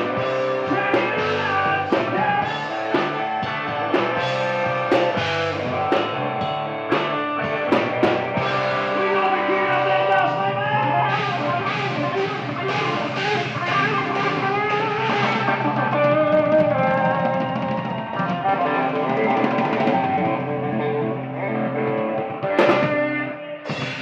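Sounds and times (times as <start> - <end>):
drum kit: 0.0 - 24.0
electric guitar: 0.0 - 24.0.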